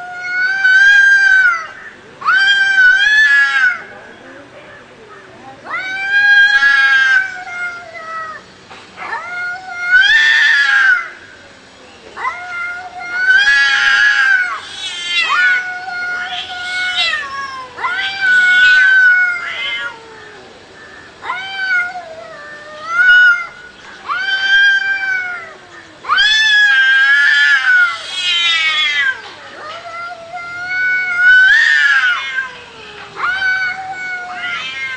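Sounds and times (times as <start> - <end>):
cats yowling in a fight: 0.0 - 4.0, 4.7 - 11.4, 12.2 - 34.9.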